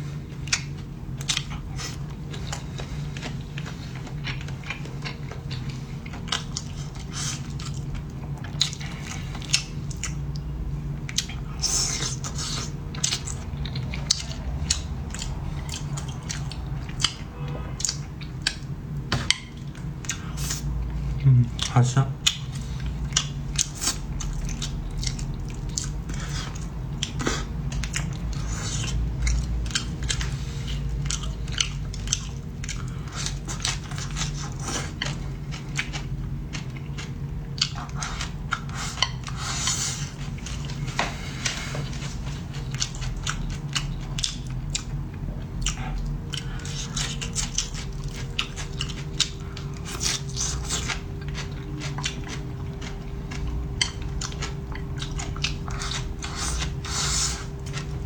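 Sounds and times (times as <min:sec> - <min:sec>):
person chewing crunchy food: 0:00.0 - 0:58.0
steady low hum: 0:00.0 - 0:58.0.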